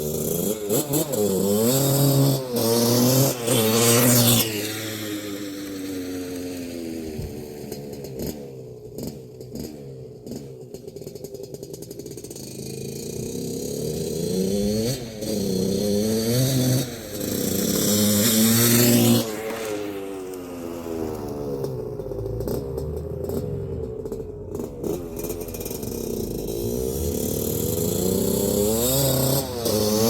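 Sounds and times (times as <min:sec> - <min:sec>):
two-stroke motorcycle engine revving: 0:00.0 - 0:30.0.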